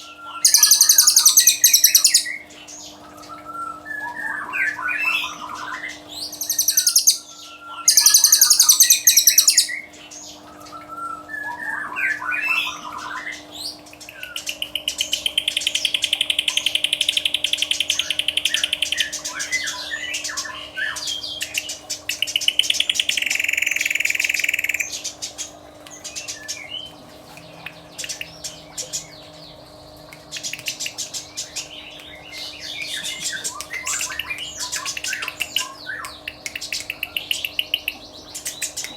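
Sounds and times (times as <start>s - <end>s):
buzzy bird trills: 0.0s - 38.9s
caged songbirds singing: 0.0s - 38.9s.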